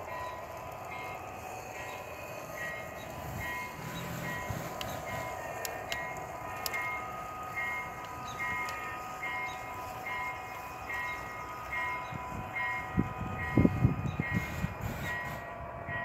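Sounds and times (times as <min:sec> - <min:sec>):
model train wheels clattering: 0:00.0 - 0:12.2, 0:14.3 - 0:15.5.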